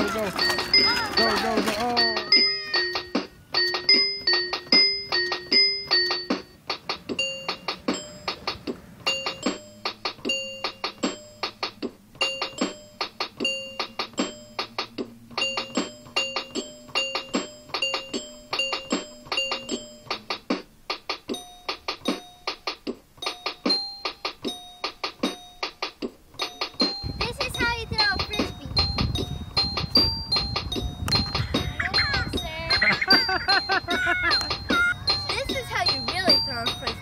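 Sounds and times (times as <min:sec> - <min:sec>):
bright keyboard tune: 0:00.0 - 0:20.7, 0:21.3 - 0:37.0
fast clicking beat: 0:00.0 - 0:37.0.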